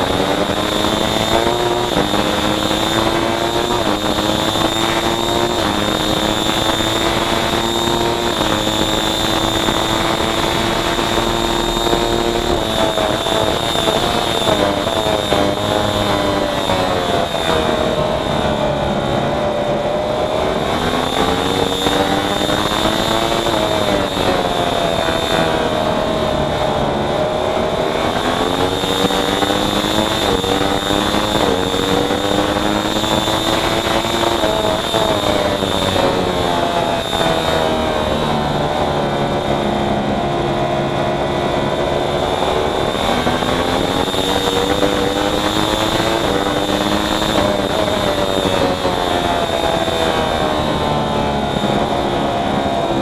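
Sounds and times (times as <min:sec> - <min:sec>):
high whine: 0:00.0 - 0:53.0
racing motorcycle engine: 0:00.0 - 0:53.0.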